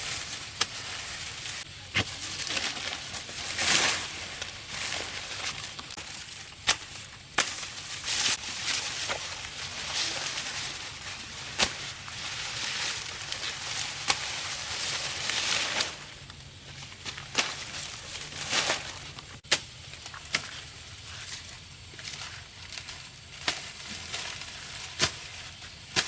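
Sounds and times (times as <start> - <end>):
rustling leaves being handled: 0.0 - 26.0.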